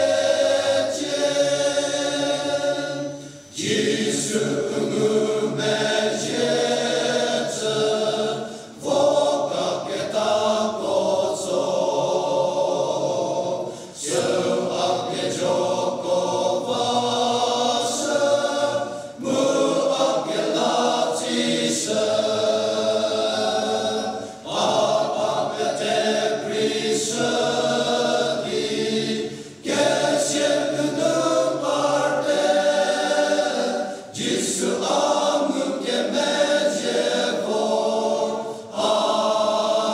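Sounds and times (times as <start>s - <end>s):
men's choir singing: 0.0s - 39.9s.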